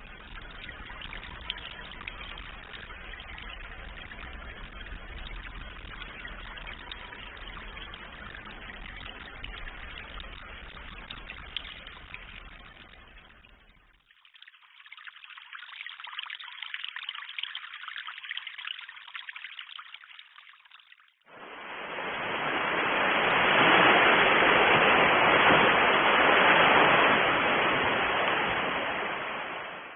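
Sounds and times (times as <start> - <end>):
running water: 0.0 - 29.9.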